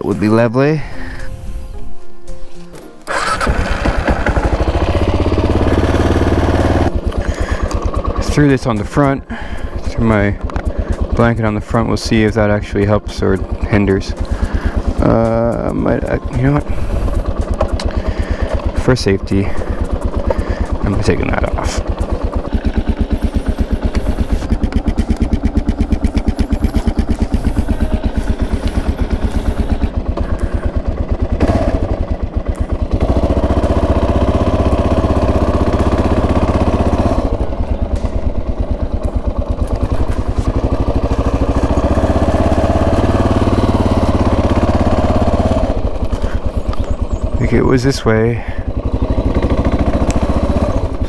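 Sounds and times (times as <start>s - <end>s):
motorcycle engine running: 2.8s - 51.0s.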